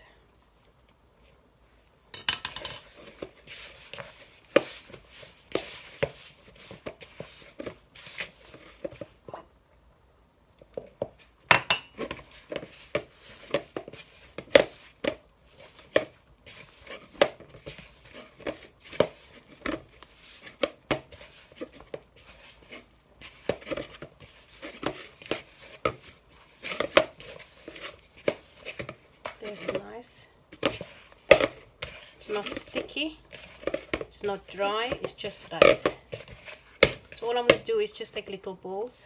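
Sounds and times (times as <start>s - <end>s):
hand kneading dough: 2.9s - 9.5s, 10.6s - 39.0s.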